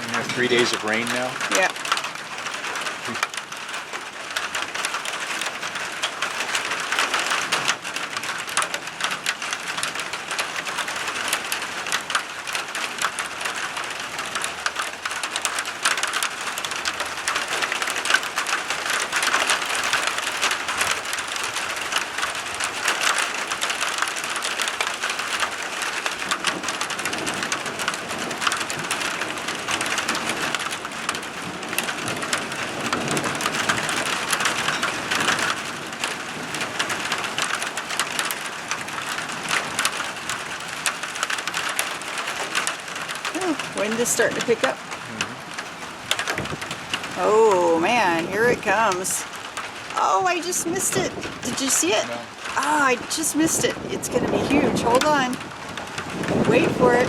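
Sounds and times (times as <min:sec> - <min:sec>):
raindrops striking a surface: 0:00.0 - 0:57.0
steady rain falling: 0:00.0 - 0:57.0.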